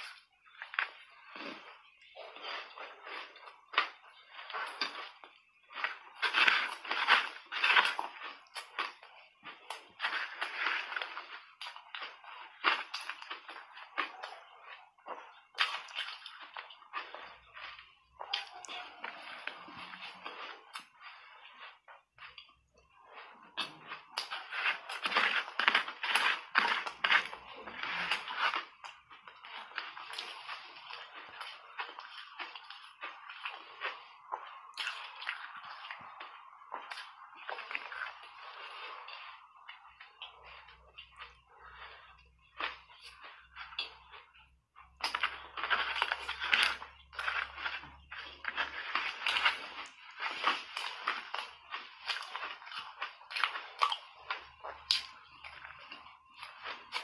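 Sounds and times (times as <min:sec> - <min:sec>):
ice crunching: 0:00.0 - 0:14.3, 0:24.0 - 0:44.0, 0:45.0 - 0:57.0.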